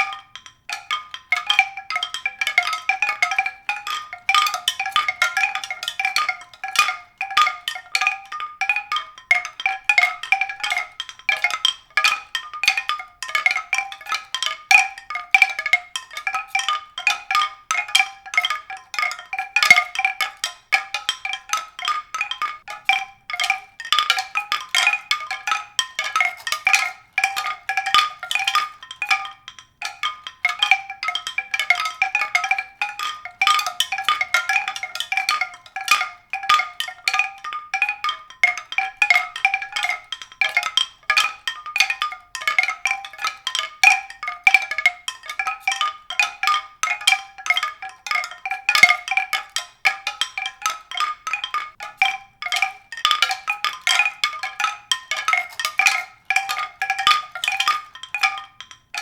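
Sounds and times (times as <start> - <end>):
mallet percussion music: 0.0 - 59.0.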